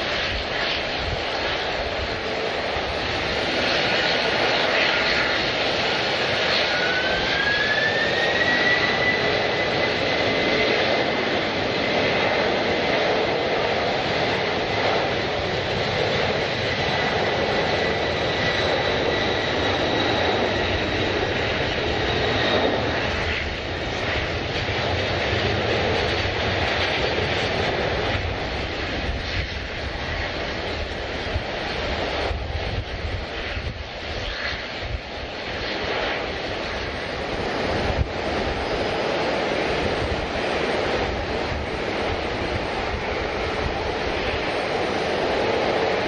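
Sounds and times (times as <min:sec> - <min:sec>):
jet engines roaring: 0:00.0 - 0:46.0.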